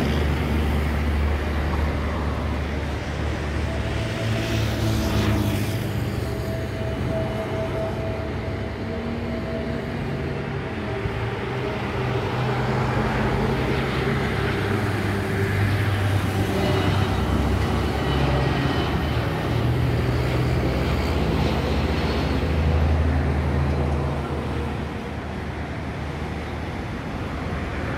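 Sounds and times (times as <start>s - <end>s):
jet airliner passing overhead: 0.0s - 27.9s
road traffic: 0.0s - 27.9s.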